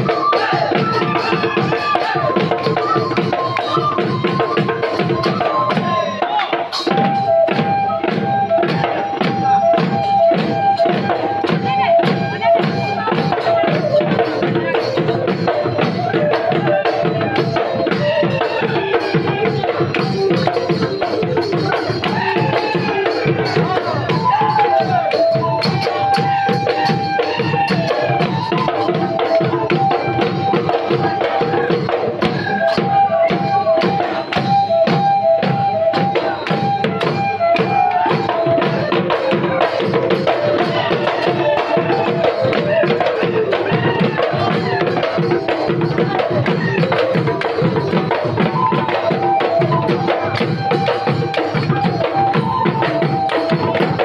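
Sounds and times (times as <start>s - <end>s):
dhol drums beating fast rhythm: 0.0s - 54.0s.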